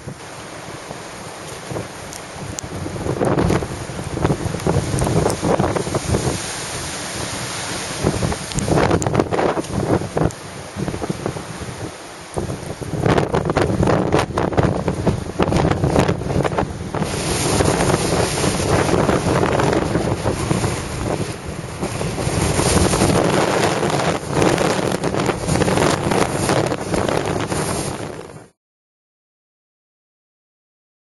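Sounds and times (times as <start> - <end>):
sea waves breaking: 0.0 - 28.6
wind buffeting microphone: 0.0 - 28.6.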